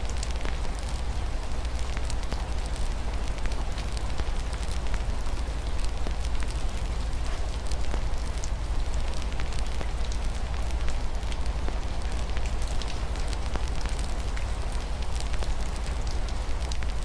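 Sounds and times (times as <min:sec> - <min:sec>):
low rumble of fire: 0:00.0 - 0:17.0
rain falling against a window: 0:00.0 - 0:17.0
wood fire crackling and popping: 0:00.0 - 0:17.0.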